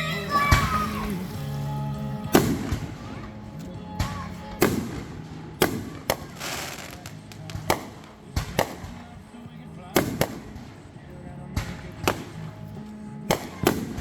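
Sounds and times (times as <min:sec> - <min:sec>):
fireworks crackling: 0:00.0 - 0:14.0
fireworks bangs: 0:00.2 - 0:14.0.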